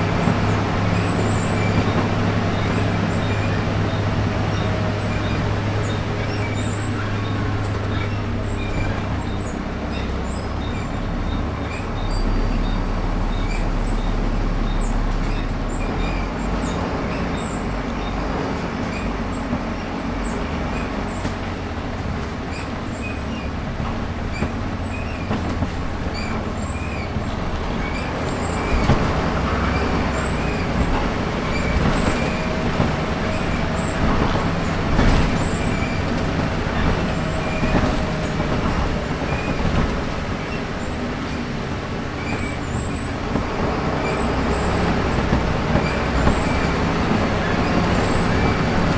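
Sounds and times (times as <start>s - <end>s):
diesel bus engine droning: 0.0s - 48.9s
road noise: 0.0s - 48.9s.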